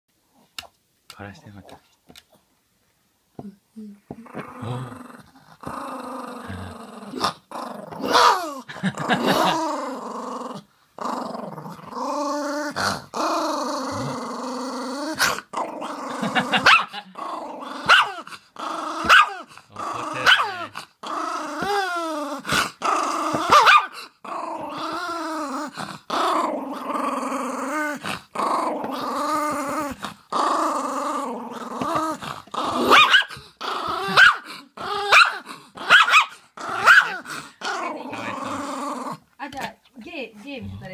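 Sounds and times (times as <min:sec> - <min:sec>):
small dog growling: 0:03.8 - 0:39.3.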